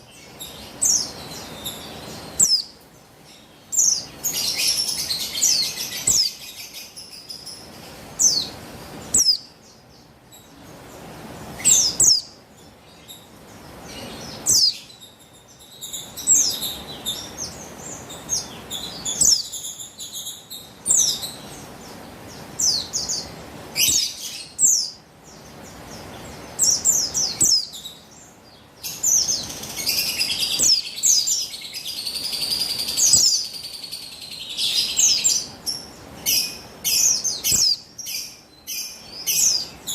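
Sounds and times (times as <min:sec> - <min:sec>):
bird high chirps and twittering: 0:00.0 - 0:39.9.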